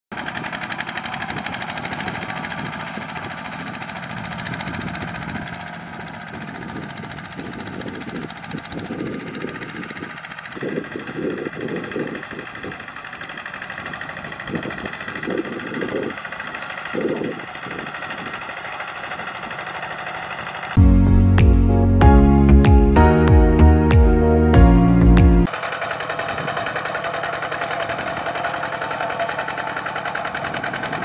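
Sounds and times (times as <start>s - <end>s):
diesel tractor engine chugging: 0.1s - 31.0s.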